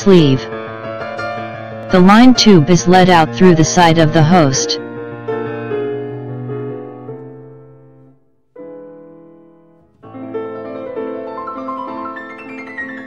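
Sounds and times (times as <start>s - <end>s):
piano sustained chords: 0.0s - 13.0s.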